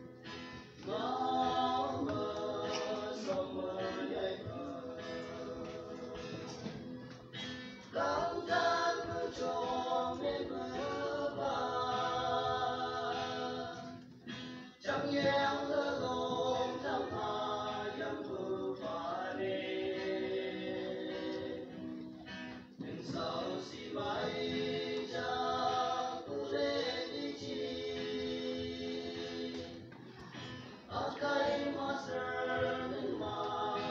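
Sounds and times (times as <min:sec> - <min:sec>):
choir singing: 0:00.8 - 0:30.0, 0:30.9 - 0:33.9.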